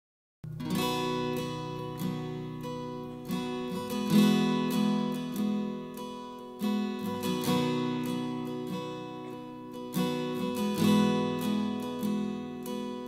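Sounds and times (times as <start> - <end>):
acoustic guitar strumming: 0.4 - 13.0.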